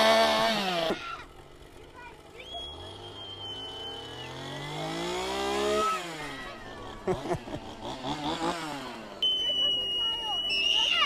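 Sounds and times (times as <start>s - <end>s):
chainsaw revving: 0.0s - 9.2s.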